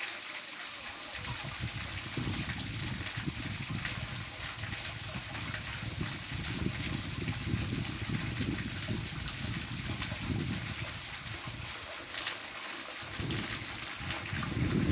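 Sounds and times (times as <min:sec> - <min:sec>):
steady rain falling: 0:00.0 - 0:14.9.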